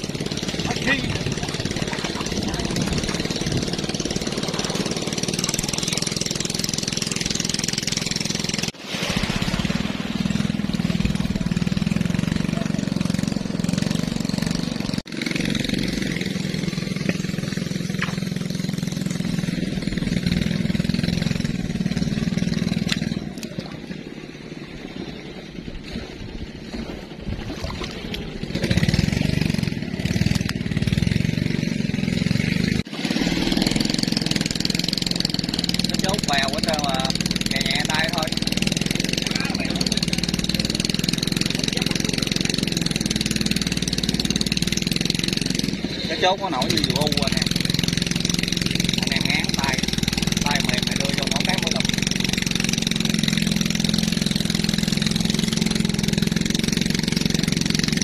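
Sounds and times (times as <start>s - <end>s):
small engine humming: 0.0s - 58.0s.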